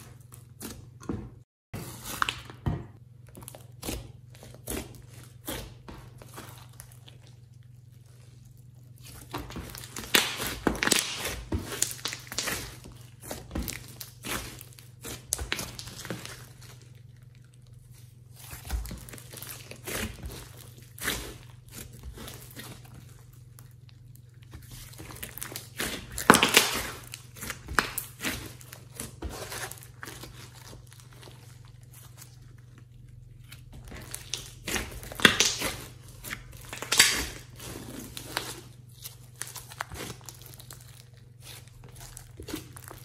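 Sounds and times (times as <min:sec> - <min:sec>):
hands squeezing sticky slime: 0:03.3 - 0:43.0.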